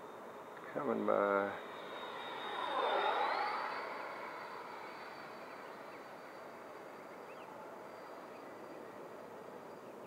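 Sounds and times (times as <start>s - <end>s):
electric ducted fan whoosh: 0.0s - 9.7s
high whine: 0.0s - 10.0s.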